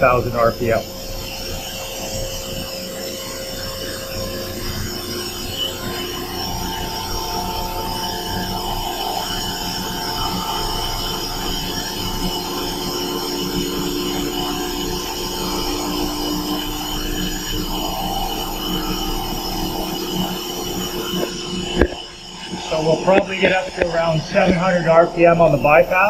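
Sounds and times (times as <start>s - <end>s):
turbine machinery humming: 0.0s - 26.0s.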